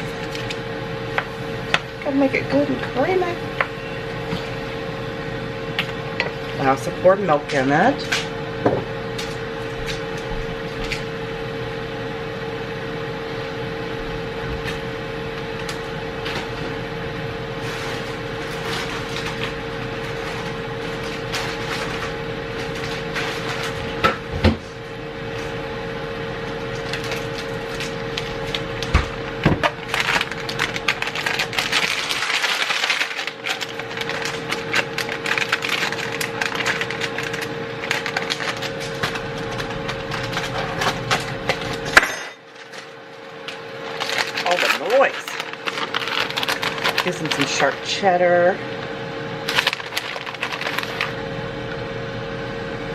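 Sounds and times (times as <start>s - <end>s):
air fryer fan hum: 0.0s - 52.9s.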